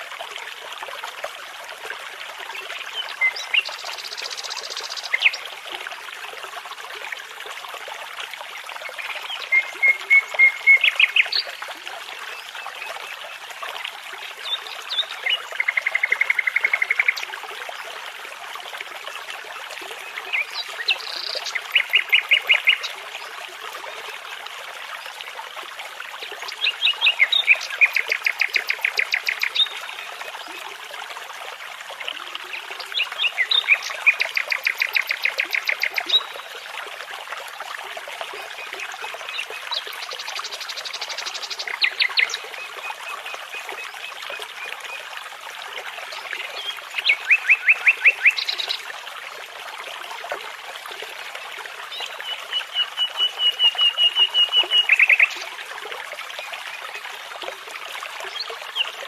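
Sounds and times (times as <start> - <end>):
babbling brook: 0.0 - 59.0.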